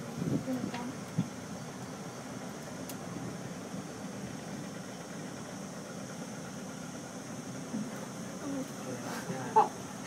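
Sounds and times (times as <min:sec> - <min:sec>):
cable car hum and rumble: 0:00.0 - 0:10.0.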